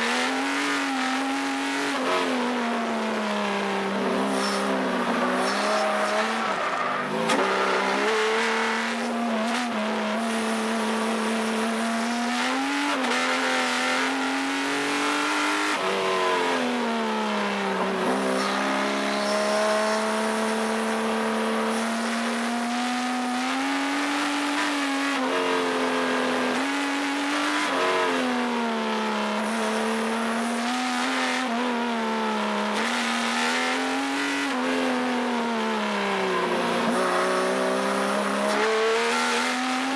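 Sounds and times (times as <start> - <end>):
car engine revving under throttle: 0.0 - 39.9.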